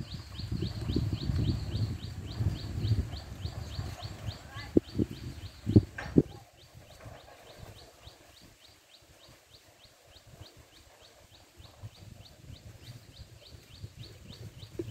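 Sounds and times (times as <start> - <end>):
small bird chirping: 0.0 - 14.9
wind rumble on microphone: 0.0 - 14.9.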